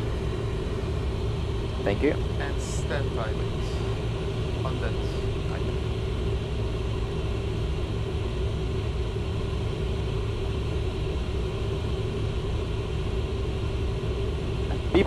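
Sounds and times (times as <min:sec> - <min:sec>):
jet engine drone: 0:00.0 - 0:15.0
steady hum: 0:00.0 - 0:15.0.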